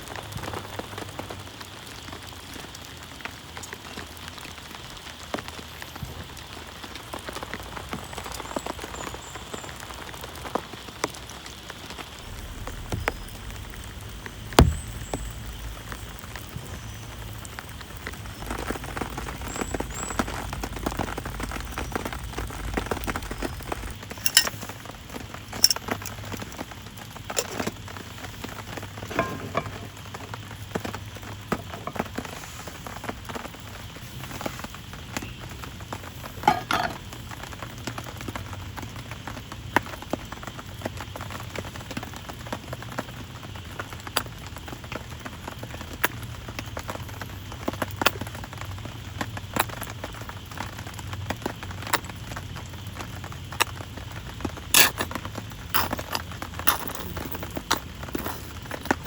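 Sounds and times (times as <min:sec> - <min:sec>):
raindrops ticking on plastic tarp: 0:00.0 - 0:29.0, 0:29.9 - 0:56.7
steady rain: 0:00.0 - 0:59.0.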